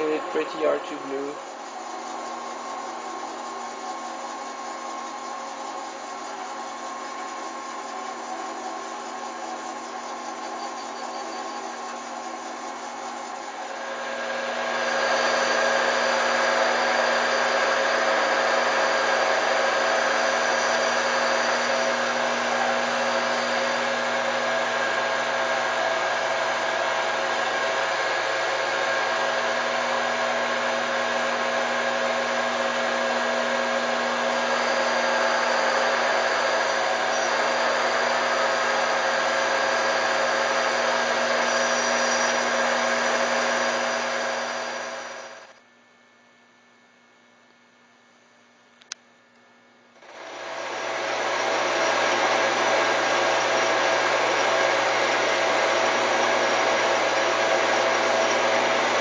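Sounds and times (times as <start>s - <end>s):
lathe drive whine: 0.0s - 45.6s, 50.0s - 59.0s
metal lathe whirring hum: 0.0s - 45.6s, 50.0s - 59.0s.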